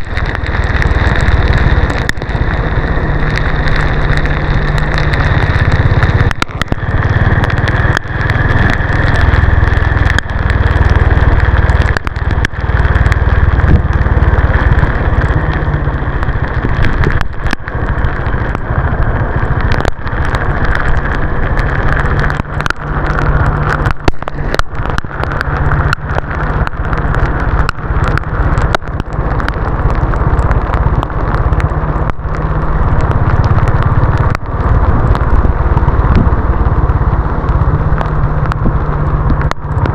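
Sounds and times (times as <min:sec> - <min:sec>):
road and wind noise: 0:00.0 - 0:39.9
short clicks and crackles: 0:00.0 - 0:39.9
motorcycle engine running: 0:00.1 - 0:39.9.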